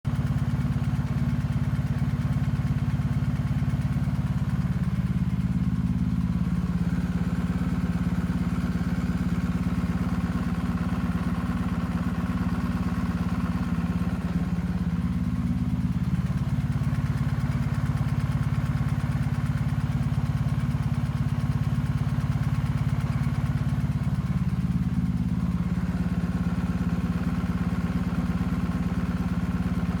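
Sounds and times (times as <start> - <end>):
motorcycle engine idling: 0.0 - 30.0
engine ticking: 0.1 - 30.0.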